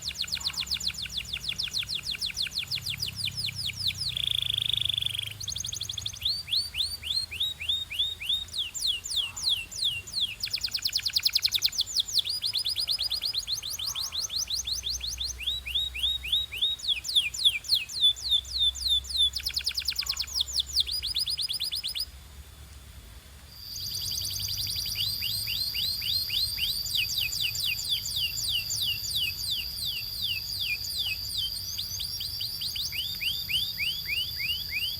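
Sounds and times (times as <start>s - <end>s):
canary singing: 0.0s - 22.1s, 23.6s - 34.9s.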